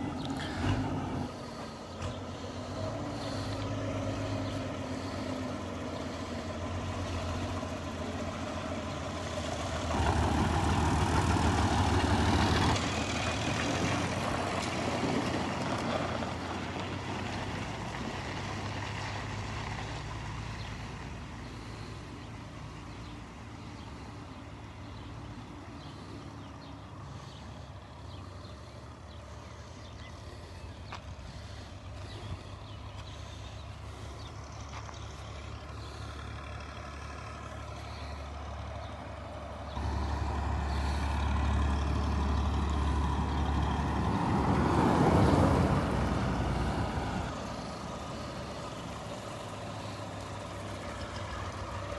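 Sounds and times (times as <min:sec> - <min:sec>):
tractor diesel engine passing: 0:00.0 - 0:51.9.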